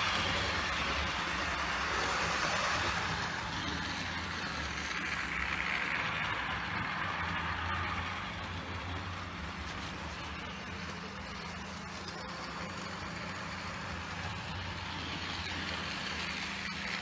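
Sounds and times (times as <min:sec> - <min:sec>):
model train motor running: 0:00.0 - 0:17.0
wheels rolling on track: 0:00.0 - 0:17.0.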